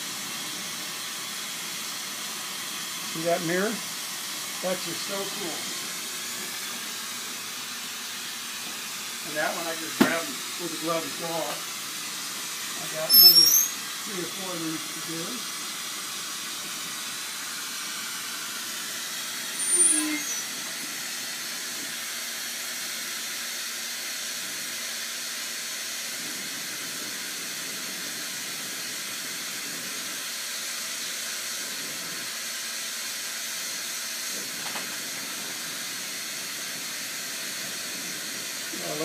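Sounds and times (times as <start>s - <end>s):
torch flame hissing: 0.0s - 39.0s.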